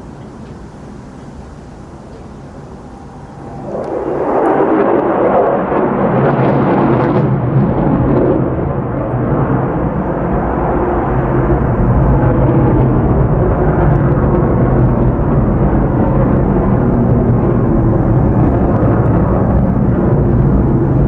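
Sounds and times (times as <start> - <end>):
jet engine flying by: 0.0 - 21.0.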